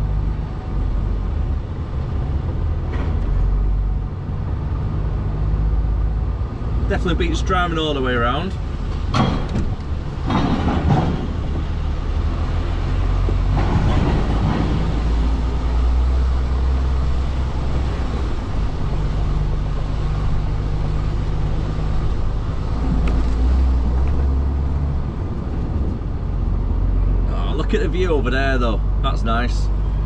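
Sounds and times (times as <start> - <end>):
lorry diesel engine rumbling: 0.0 - 30.0.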